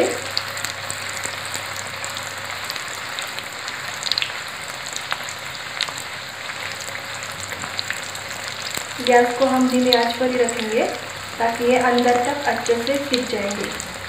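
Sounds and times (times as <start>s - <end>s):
oil popping and crackling: 0.0s - 14.0s
oil sizzling in a pan: 0.0s - 14.0s.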